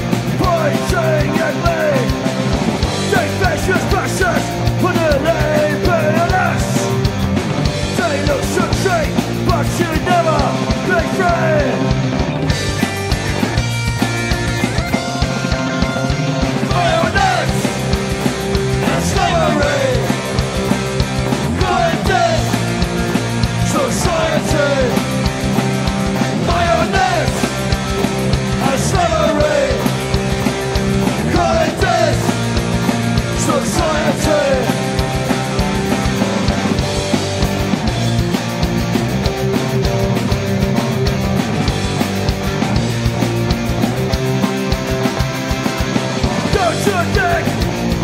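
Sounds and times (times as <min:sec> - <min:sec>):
punk rock band playing: 0:00.0 - 0:48.0.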